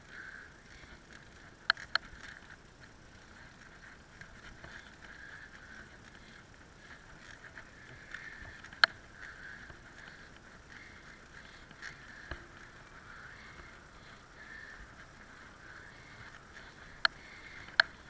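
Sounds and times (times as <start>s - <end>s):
bicycle rolling hiss: 0.0s - 18.0s.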